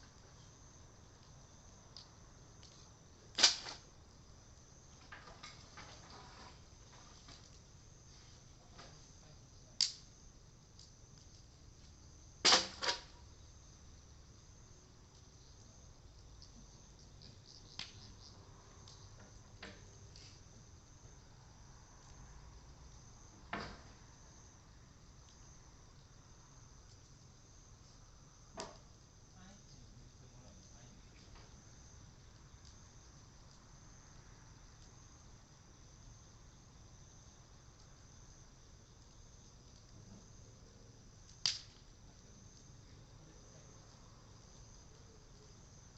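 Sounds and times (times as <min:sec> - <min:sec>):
bonfire wood popping and cracking: 0:00.0 - 0:45.9
insects chirring: 0:00.0 - 0:45.9.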